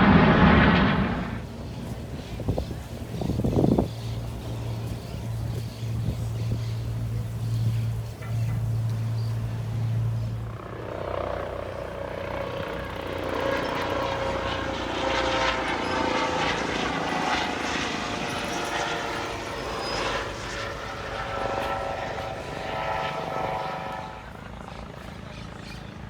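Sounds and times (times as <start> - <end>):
aircraft engine: 0.0 - 26.0.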